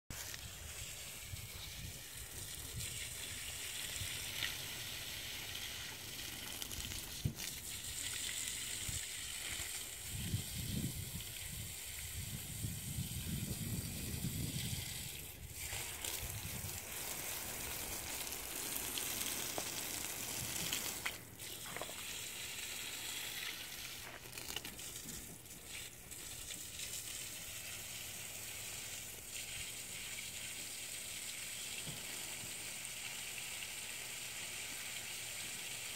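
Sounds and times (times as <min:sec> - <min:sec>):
hose water splashing on soil: 0:00.1 - 0:35.9.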